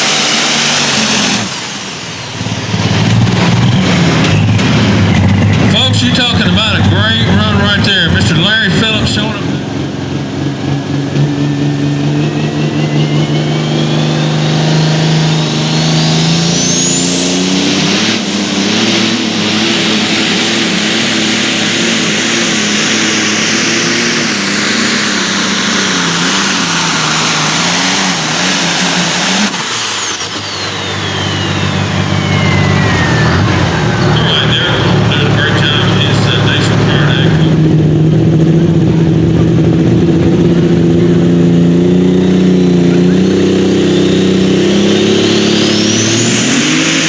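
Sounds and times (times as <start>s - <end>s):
turbocharged engine at full throttle: 0.0s - 47.0s.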